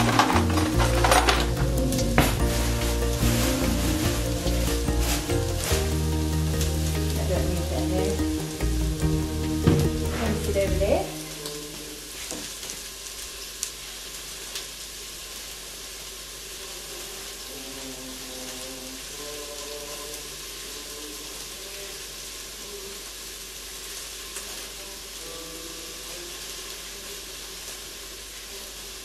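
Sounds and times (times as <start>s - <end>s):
onion sizzling in a pan: 0.0s - 29.0s.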